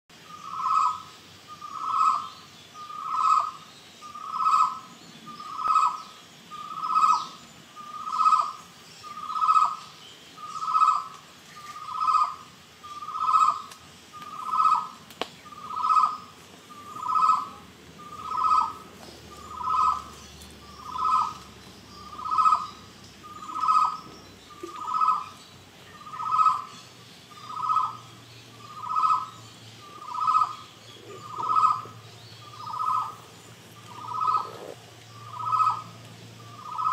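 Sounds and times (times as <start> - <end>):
faint high chirping: 0.2 - 36.9.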